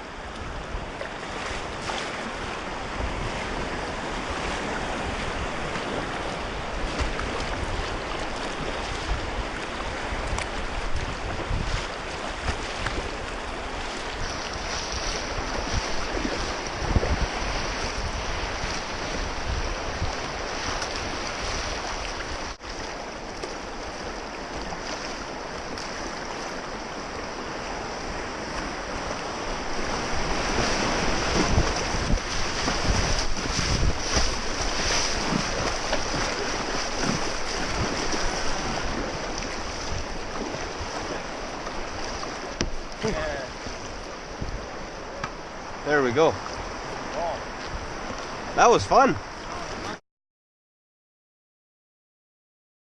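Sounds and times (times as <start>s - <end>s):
wind buffeting microphone: 0.0s - 22.5s, 23.8s - 48.6s
river water rushing: 0.0s - 50.0s.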